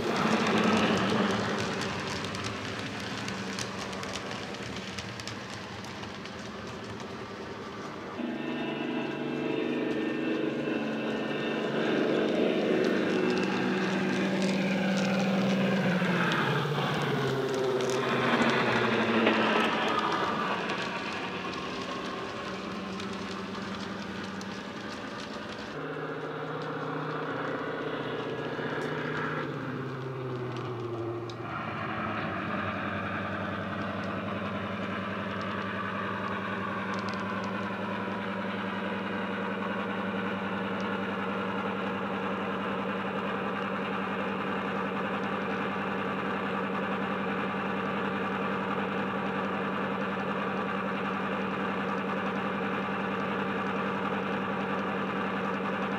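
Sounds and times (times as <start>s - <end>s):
diesel engine through small speaker: 0.0s - 55.9s.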